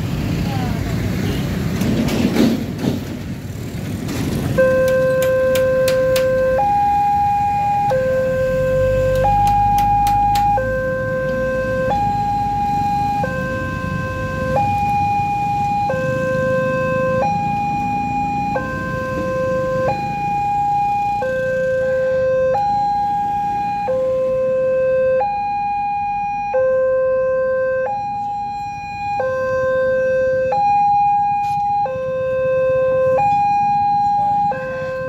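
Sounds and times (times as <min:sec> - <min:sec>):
street traffic: 0:00.0 - 0:35.0
two-tone level crossing alarm: 0:04.6 - 0:35.0.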